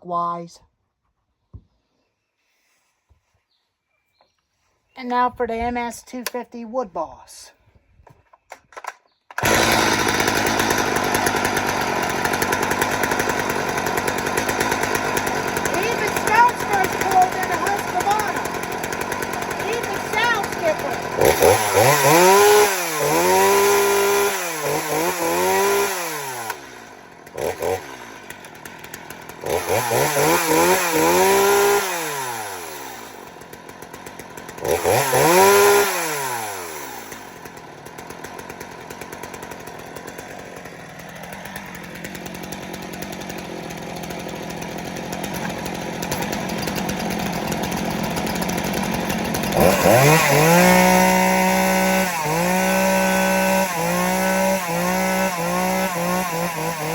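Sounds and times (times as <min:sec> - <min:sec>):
chainsaw revving and idling: 0:09.4 - 0:56.9.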